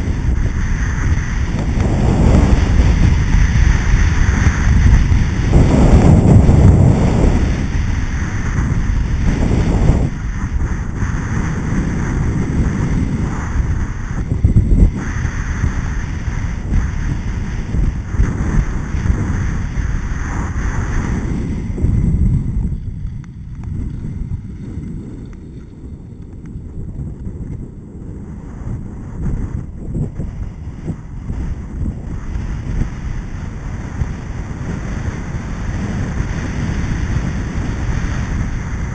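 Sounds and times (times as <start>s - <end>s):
skis scraping over snow: 0.0s - 38.9s
wind rushing over microphone: 0.0s - 38.9s.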